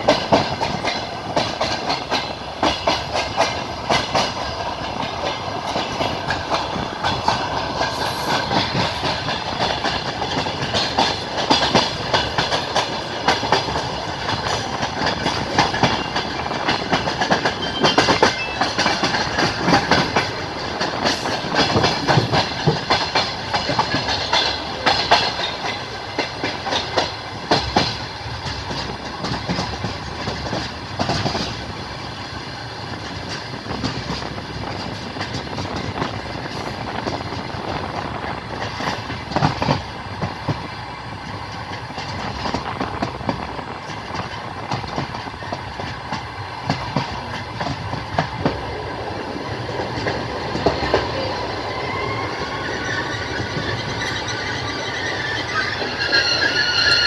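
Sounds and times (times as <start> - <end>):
train running rumble: 0.0 - 57.0
train wheels clacking over rail joints: 0.0 - 57.0.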